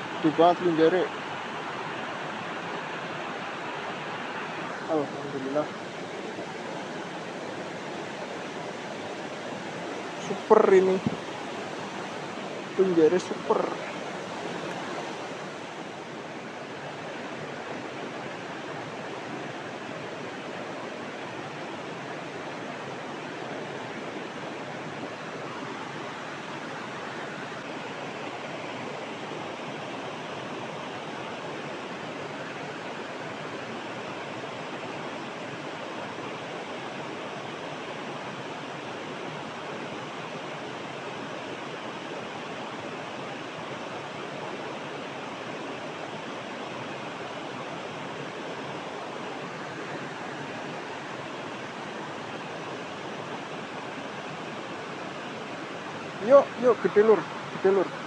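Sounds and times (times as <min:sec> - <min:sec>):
river water rushing around rocks: 0:00.0 - 0:58.0.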